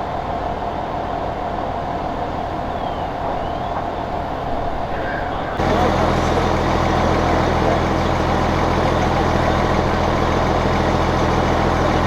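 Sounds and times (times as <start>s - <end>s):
diesel engines droning: 0.0s - 12.0s.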